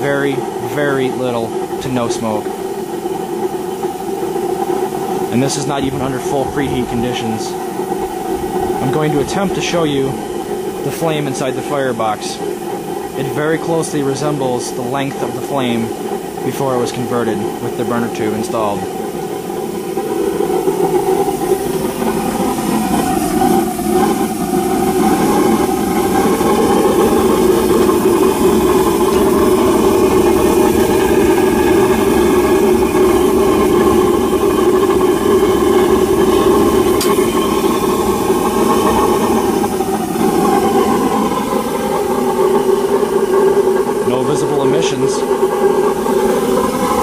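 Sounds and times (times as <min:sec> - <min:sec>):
oil burner rushing hum: 0:00.0 - 0:47.0.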